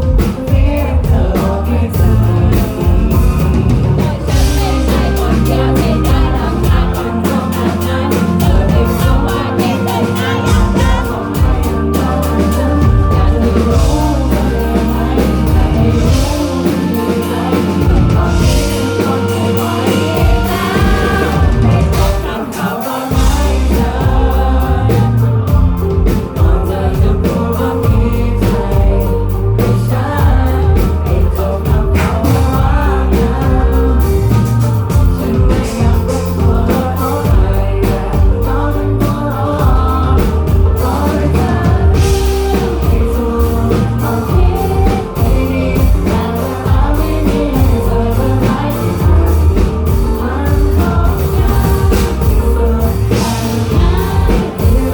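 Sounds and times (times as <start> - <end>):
crowd singing along: 0.0 - 54.9
lead vocal singing: 0.0 - 54.9
live pop-rock band: 0.0 - 54.9.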